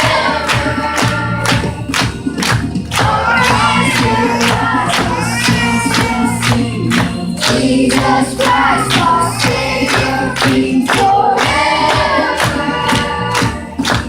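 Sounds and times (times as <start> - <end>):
backing track with steady beat: 0.0 - 14.0
children's choir singing: 0.0 - 14.0.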